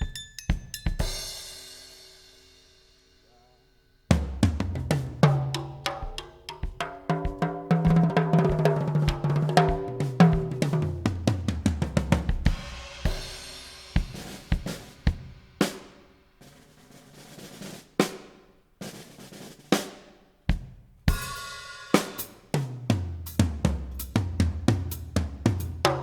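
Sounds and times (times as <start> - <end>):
drum kit beat: 0.0 - 26.0.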